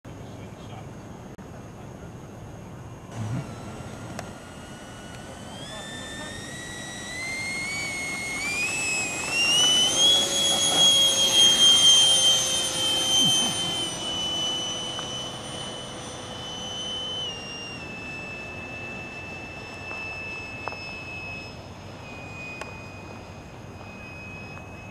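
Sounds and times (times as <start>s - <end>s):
electric ducted fan whining: 0.1s - 24.9s.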